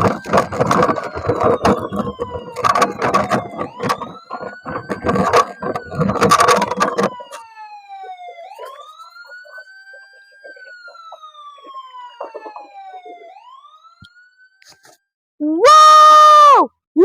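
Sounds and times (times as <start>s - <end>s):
siren wailing: 0.0s - 16.7s.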